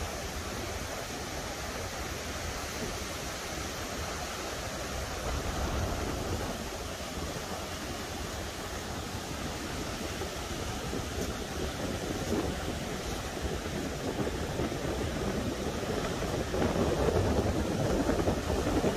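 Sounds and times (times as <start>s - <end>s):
surf on a pebbly beach: 0.0s - 18.9s
wind buffeting microphone: 0.0s - 18.9s.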